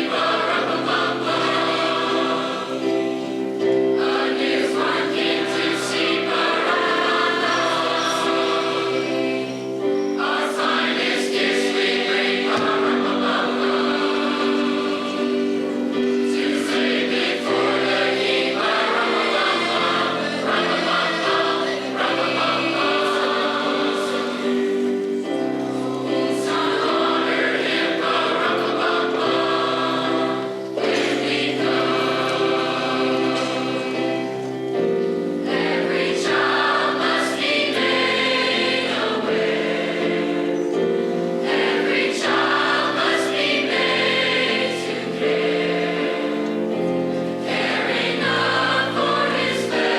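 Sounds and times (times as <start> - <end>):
choir singing in harmony: 0.0 - 49.9.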